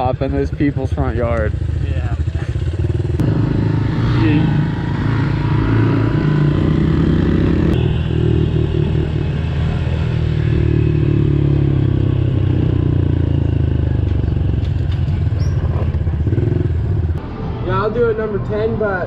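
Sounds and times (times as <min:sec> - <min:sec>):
motorbike engines running: 0:00.0 - 0:17.2.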